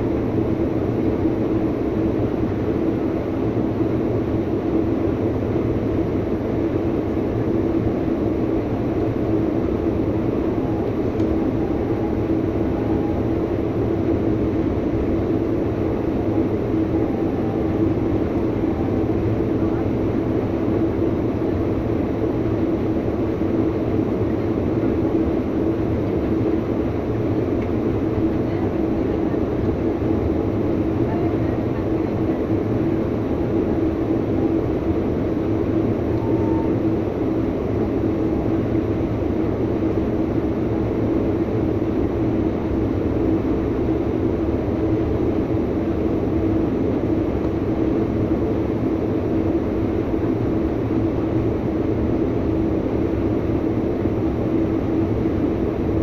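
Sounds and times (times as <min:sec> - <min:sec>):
train rumbling at speed: 0:00.0 - 0:56.0.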